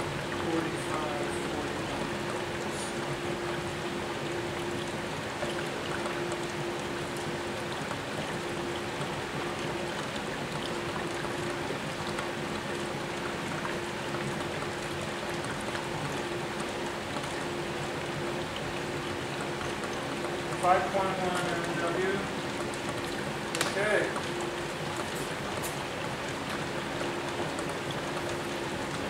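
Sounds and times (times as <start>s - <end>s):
electrolysis cells fizzing and bubbling: 0.0s - 29.0s
steady hum: 0.0s - 29.0s.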